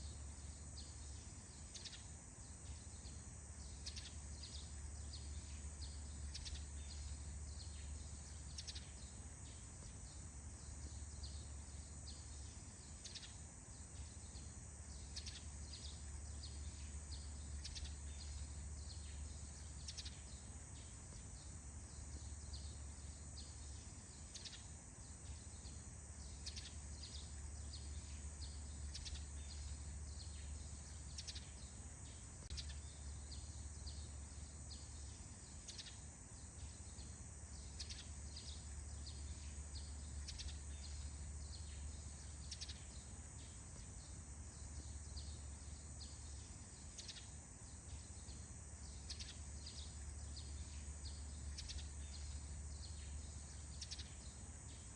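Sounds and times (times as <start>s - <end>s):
high insect drone: 0.0s - 54.9s
small birds chirping: 0.0s - 54.9s.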